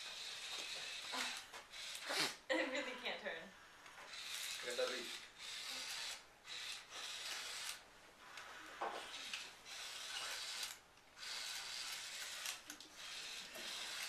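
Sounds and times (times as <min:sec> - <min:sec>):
toy motor and gears whirring: 0:00.0 - 0:02.4, 0:04.1 - 0:07.8, 0:08.4 - 0:14.0.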